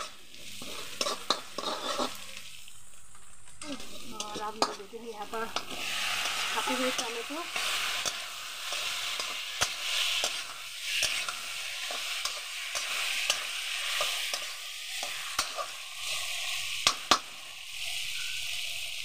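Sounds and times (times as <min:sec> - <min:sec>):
spatula clicking and scraping pan: 0:00.0 - 0:02.5, 0:03.6 - 0:17.4
vegetables sizzling in wok: 0:00.0 - 0:19.0.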